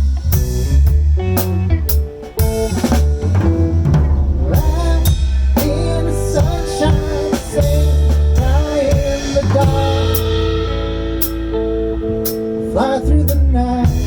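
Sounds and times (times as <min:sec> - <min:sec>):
bending guitar melody: 0:00.0 - 0:14.0
drum kit beat: 0:00.0 - 0:14.0.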